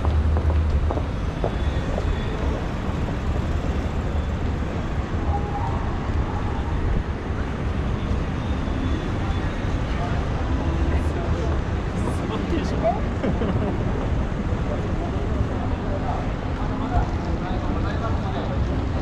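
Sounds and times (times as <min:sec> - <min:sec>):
cars and vans passing: 0:00.0 - 0:19.0.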